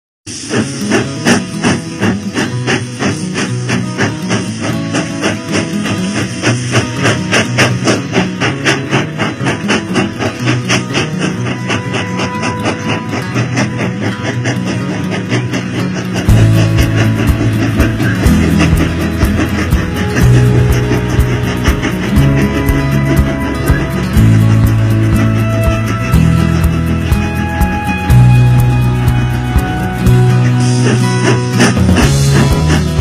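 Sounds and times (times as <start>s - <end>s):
guitar music with quick beat: 0.3s - 33.0s.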